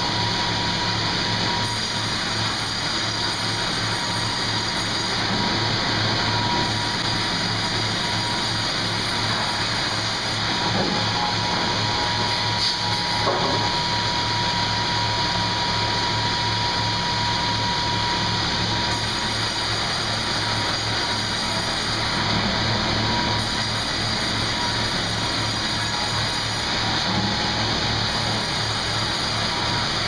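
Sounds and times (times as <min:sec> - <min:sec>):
sawmill machinery humming: 0:00.0 - 0:30.0
thin machine whine: 0:00.0 - 0:30.0.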